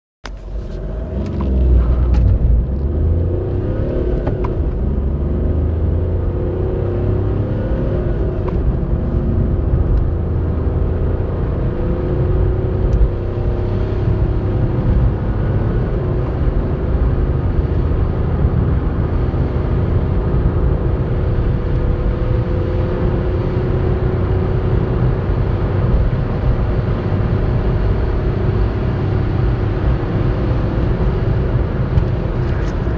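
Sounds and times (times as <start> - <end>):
diesel car engine accelerating: 0.2 - 32.9
low road noise rumble: 0.2 - 32.9.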